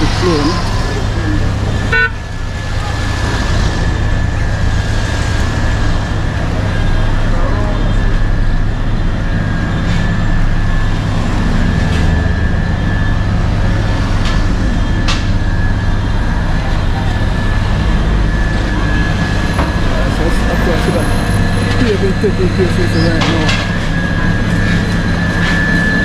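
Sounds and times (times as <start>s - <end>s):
heavy vehicle engines rumbling: 0.0s - 26.0s.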